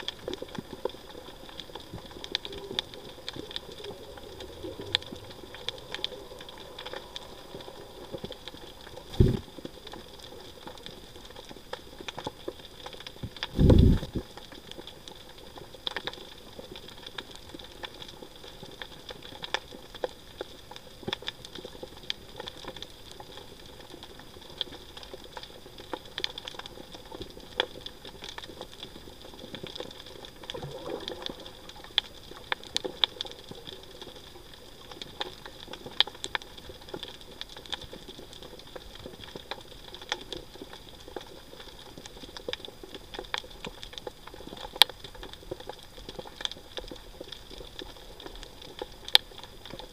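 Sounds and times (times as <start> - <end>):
faint steady hiss: 0.0 - 49.9
underwater clicks and crackles: 0.0 - 49.9.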